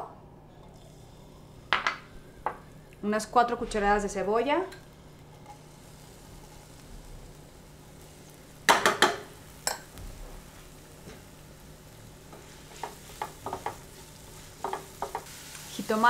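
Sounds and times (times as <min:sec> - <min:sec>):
onion sizzling in oil: 0:00.9 - 0:16.0.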